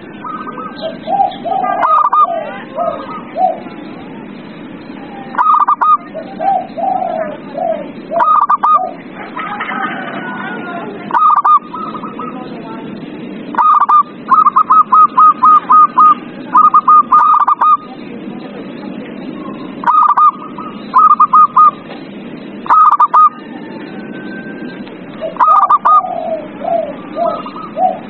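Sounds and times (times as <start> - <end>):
dove cooing: 0.0 - 4.2, 5.3 - 12.6, 13.5 - 18.0, 19.4 - 21.8, 22.6 - 28.0
low background noise: 0.0 - 28.0.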